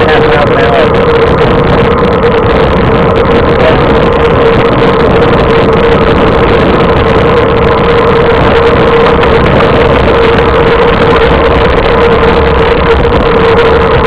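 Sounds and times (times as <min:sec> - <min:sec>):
steady hum: 0:00.0 - 0:14.0
wind rushing over microphone: 0:00.0 - 0:14.0.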